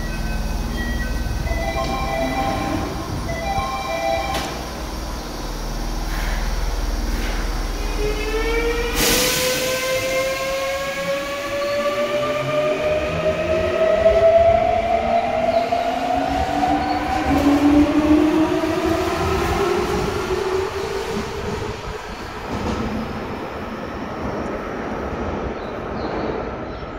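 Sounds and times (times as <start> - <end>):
train inverter whine: 0.0 - 25.9
train wheels rumbling on rail: 0.0 - 26.9.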